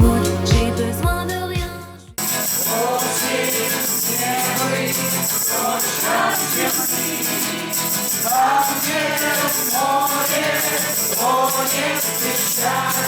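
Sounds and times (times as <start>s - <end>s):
group of voices singing: 0.0s - 13.0s
tambourine jingling: 2.2s - 13.0s.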